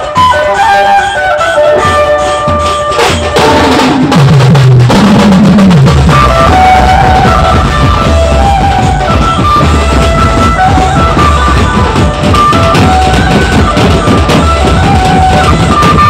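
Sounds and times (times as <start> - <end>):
amplified melody through speakers: 0.0 - 16.0
band drums pounding: 0.0 - 16.0.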